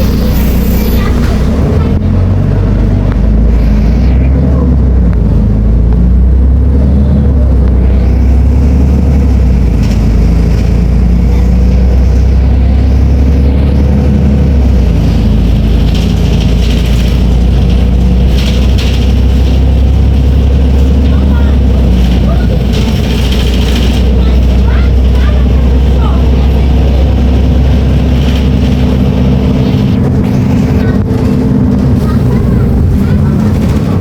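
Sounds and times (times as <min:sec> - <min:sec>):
bus diesel engine drone: 0:00.0 - 0:34.0.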